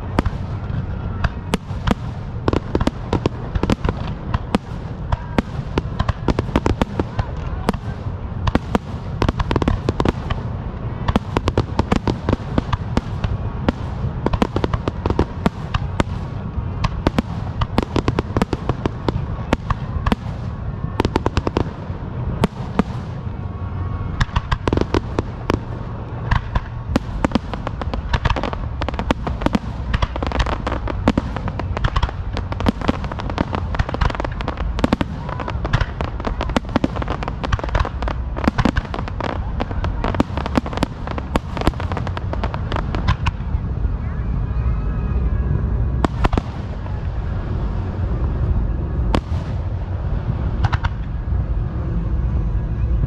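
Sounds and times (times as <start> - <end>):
fireworks cracking and popping: 0.0 - 23.5, 24.1 - 43.6, 46.0 - 47.4, 49.0 - 51.3
low rumble of booms: 0.0 - 53.0.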